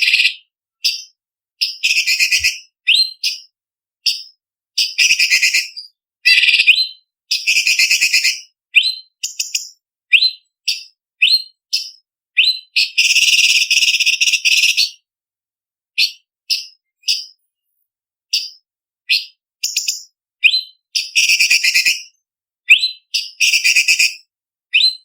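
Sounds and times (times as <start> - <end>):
bird whistling and trilling: 0.0 - 15.0, 16.0 - 17.4, 18.3 - 25.0.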